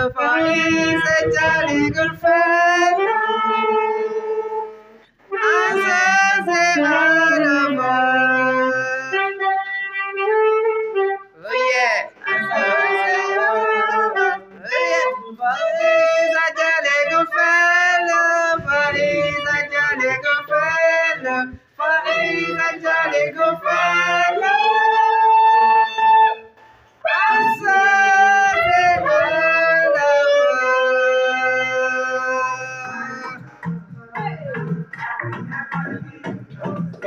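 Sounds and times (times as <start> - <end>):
saxophone melody: 0.0 - 37.0.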